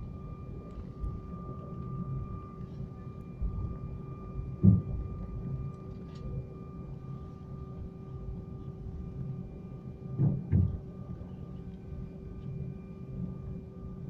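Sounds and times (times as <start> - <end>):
faint constant whine: 0.0 - 14.0
jet engine cabin rumble: 0.0 - 14.0.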